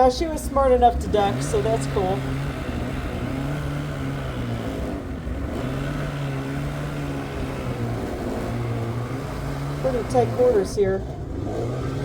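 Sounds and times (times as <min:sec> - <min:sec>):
snowmobile engine drone: 0:00.0 - 0:12.0.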